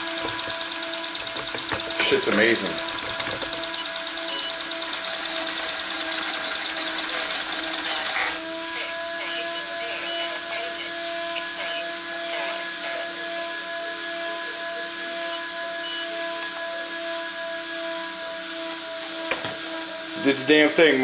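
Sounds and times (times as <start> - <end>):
toy car motor whirring: 0.0 - 20.7.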